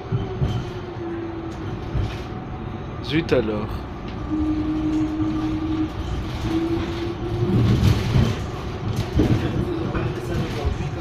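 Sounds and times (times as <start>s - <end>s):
tram drive hum: 0.0s - 11.0s
tram wheels rumbling on rail: 0.0s - 11.0s.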